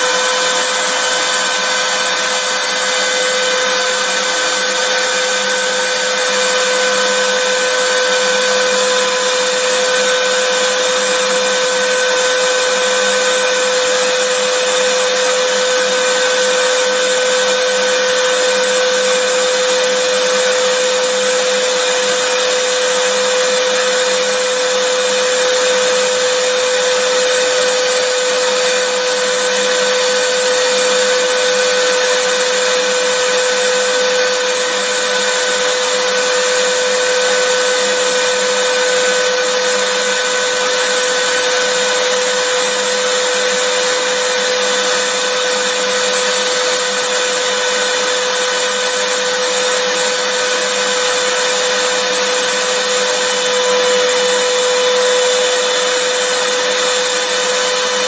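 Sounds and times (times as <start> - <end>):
vacuum cleaner motor running: 0.0 - 58.0.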